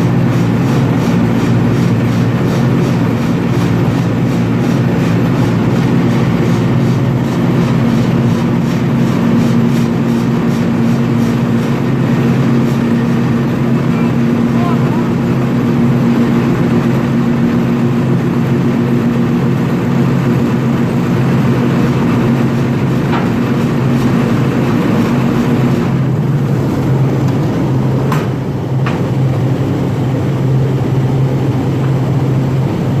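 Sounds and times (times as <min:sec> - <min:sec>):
boat diesel engine running: 0:00.0 - 0:33.0.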